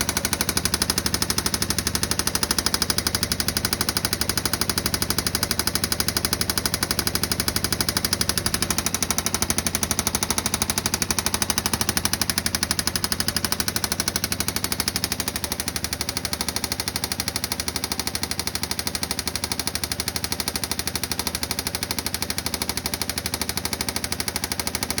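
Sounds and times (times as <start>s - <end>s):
engine running with knock: 0.0s - 25.0s.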